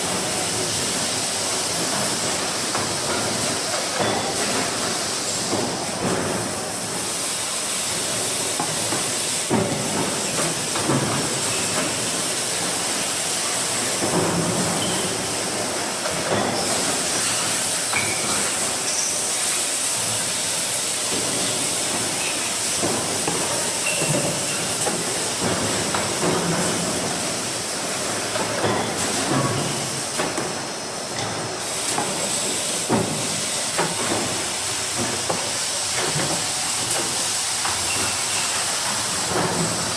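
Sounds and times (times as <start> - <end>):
loud hissing machine noise: 0.0 - 39.9.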